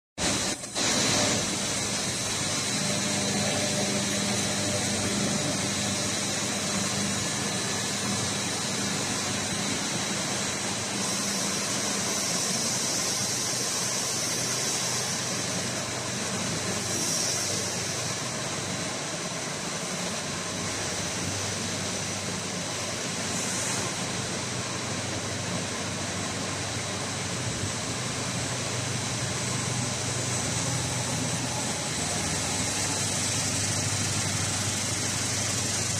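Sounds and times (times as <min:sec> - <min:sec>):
extruder machine drone: 0:00.2 - 0:35.9.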